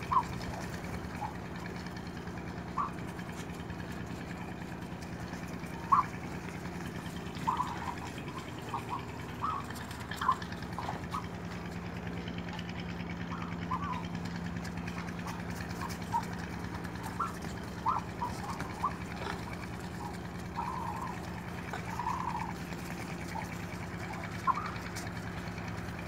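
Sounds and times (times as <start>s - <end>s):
ostrich chicks chirping: 0.0s - 26.0s
steady low hum: 0.0s - 26.0s.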